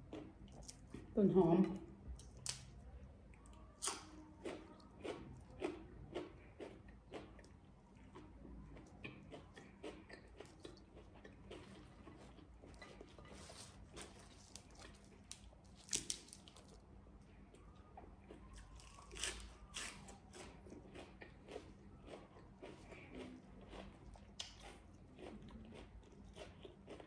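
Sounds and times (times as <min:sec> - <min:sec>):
person crunching raw vegetables: 0:03.8 - 0:16.8, 0:18.2 - 0:27.0.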